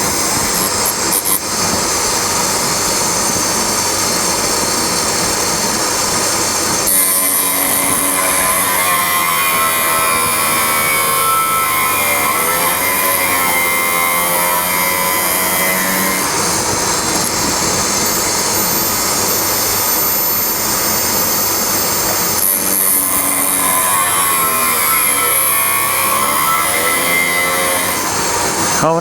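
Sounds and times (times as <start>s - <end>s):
grinding wheel grinding metal: 0.0s - 1.6s, 6.3s - 29.0s.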